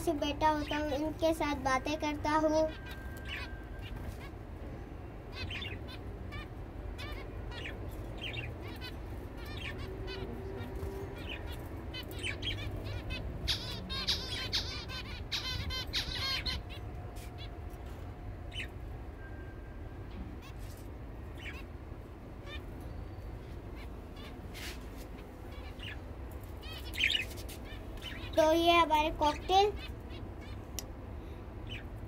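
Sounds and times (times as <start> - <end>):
finches chirping: 0.0 - 4.4, 5.2 - 17.6, 18.4 - 19.3, 20.1 - 32.0.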